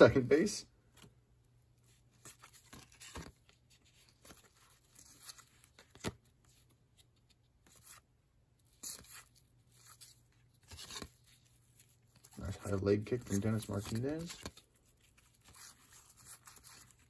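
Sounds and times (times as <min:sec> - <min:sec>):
cards rustling and sliding: 0:00.9 - 0:17.0.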